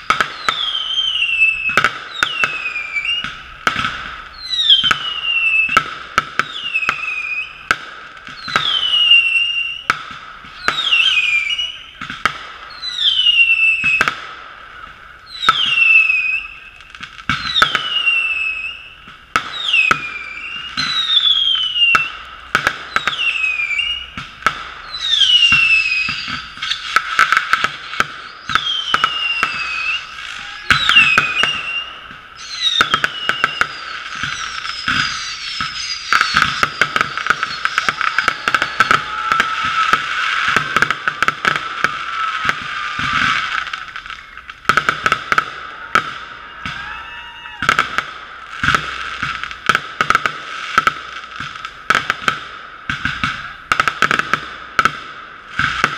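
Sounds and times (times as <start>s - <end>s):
falling firework whistles: 0.0s - 54.9s
fireworks bangs and crackles: 0.0s - 55.9s.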